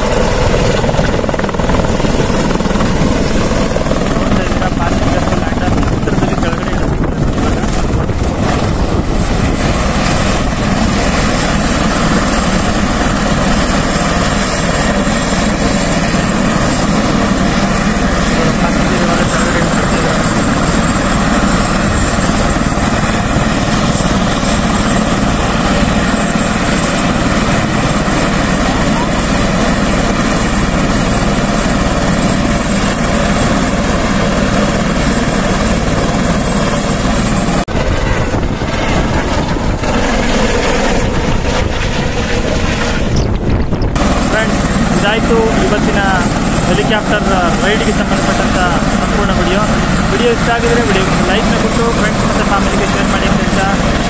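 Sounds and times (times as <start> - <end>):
helicopter rotor and engine: 0.0 - 54.0
high turbine whine: 0.0 - 54.0.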